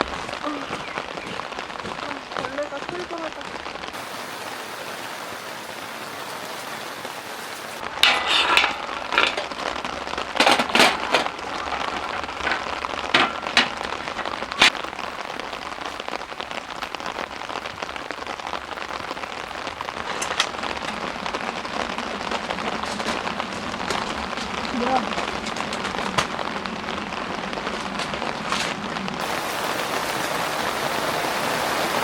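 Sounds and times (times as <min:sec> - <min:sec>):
heavy rain on tent fabric: 0:00.0 - 0:32.0.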